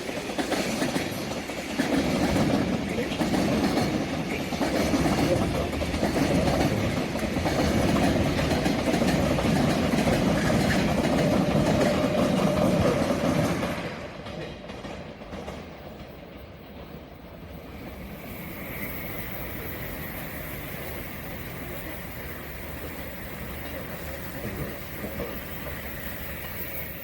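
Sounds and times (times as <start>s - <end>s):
train wheels clattering: 0.0s - 27.0s.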